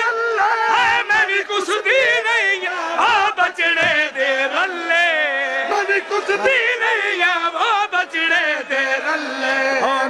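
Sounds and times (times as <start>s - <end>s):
men singing a lament together: 0.0s - 10.0s.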